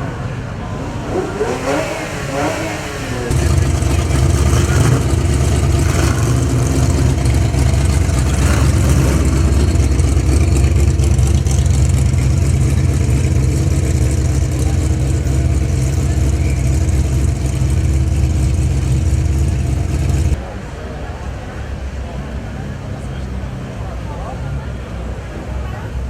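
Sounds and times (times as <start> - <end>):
car engine idling: 0.0 - 25.3.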